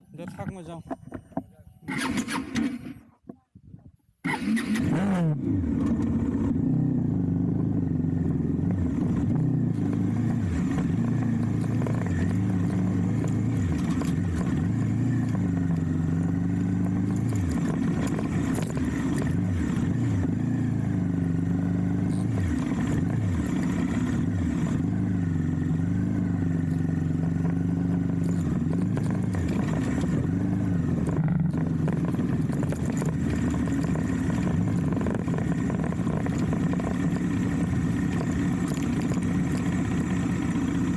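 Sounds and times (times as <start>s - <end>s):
motorcycle engine running: 4.2s - 40.9s.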